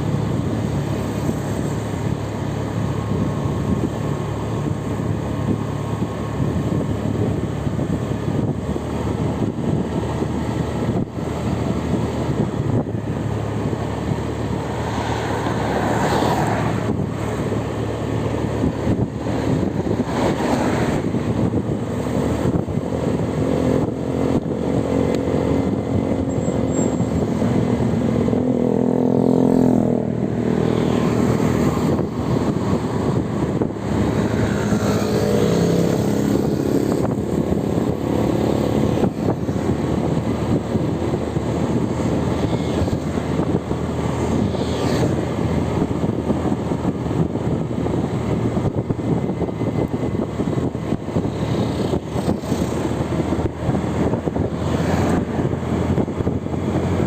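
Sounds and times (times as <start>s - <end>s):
engine speeding up: 0.0s - 57.0s
road noise: 0.0s - 57.0s
vehicle engines running: 0.0s - 57.0s.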